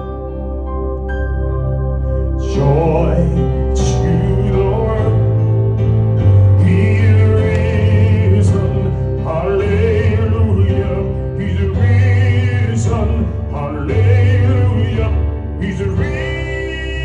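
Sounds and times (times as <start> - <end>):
man singing with vibrato: 2.4 - 5.5, 6.4 - 17.0
gospel band playing: 2.4 - 17.0.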